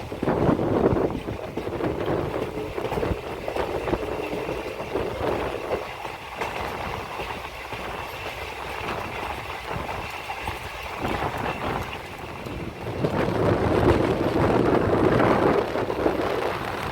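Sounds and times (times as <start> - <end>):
train carriage rumbling: 0.0 - 16.9
wheels clicking on rails: 0.0 - 16.9.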